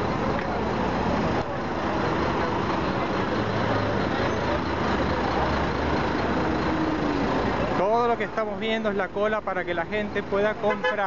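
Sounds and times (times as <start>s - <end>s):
crowd chatter: 0.0s - 9.1s
traffic rumble: 0.0s - 11.0s.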